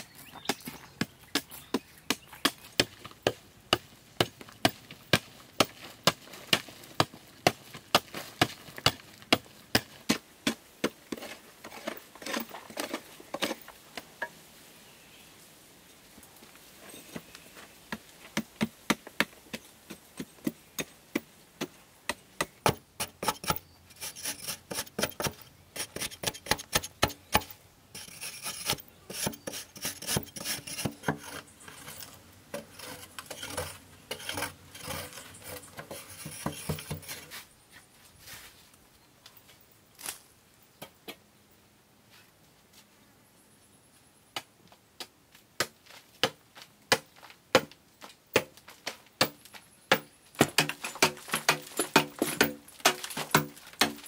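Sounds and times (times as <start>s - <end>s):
mattock striking stony soil: 0.0s - 14.1s, 17.9s - 37.5s, 44.4s - 54.0s.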